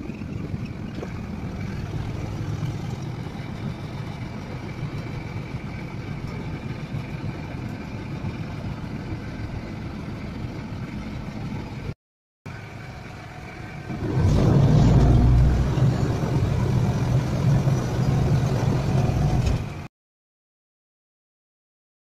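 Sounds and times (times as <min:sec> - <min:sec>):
boat engine running: 0:00.0 - 0:11.9, 0:12.5 - 0:19.9.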